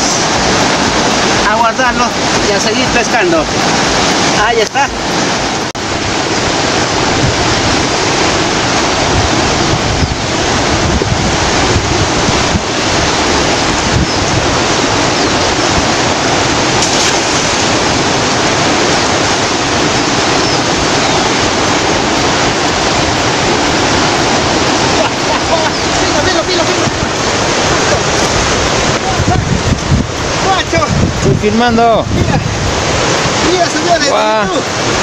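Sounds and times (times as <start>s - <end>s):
river rushing: 0.0s - 35.0s.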